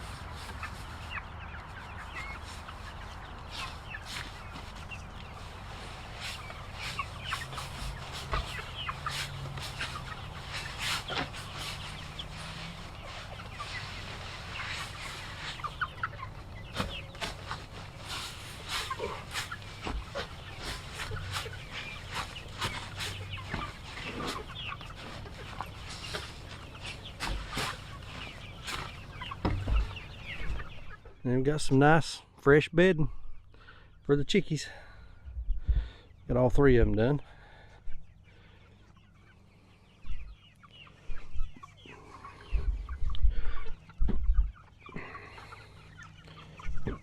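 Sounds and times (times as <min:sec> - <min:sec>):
hens clucking and chirping: 0:00.0 - 0:47.0.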